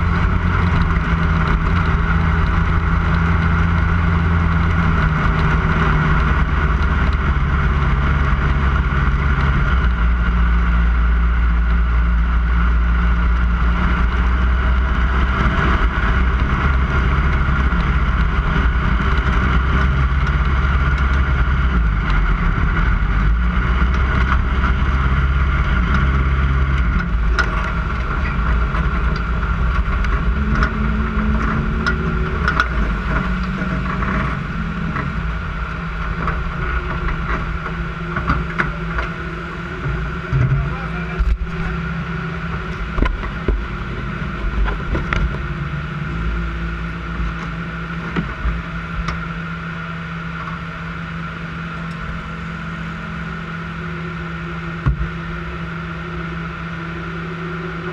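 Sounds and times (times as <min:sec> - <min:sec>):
race car engine revving: 0:00.0 - 0:57.9
steady rushing noise: 0:00.0 - 0:57.9.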